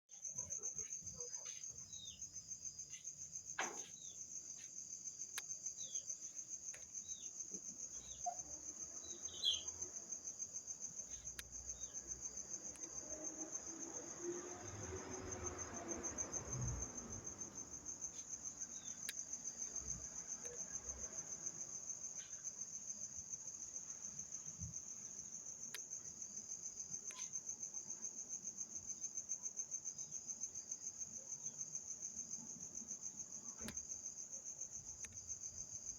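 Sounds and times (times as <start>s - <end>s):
insects trilling: 0.1s - 35.9s.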